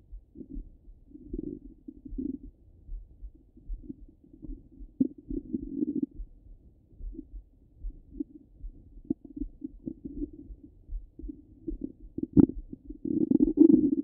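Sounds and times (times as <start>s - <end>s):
low regular pulse: 0.0s - 14.0s
stomach gurgles: 0.2s - 2.6s, 3.6s - 6.4s, 7.9s - 14.0s.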